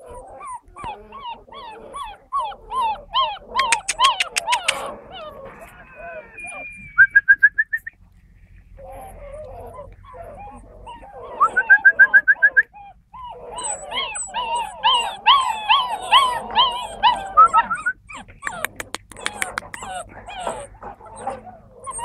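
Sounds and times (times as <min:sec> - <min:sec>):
puppies whimpering and yelping: 0:00.0 - 0:22.0.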